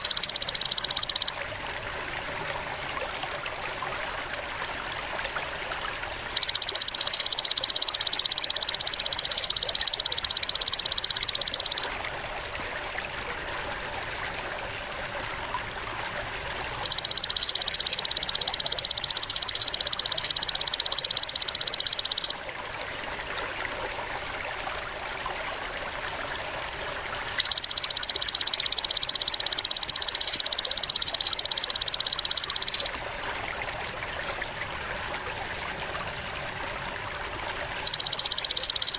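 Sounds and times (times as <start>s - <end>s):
trickling stream: 0.0s - 38.9s.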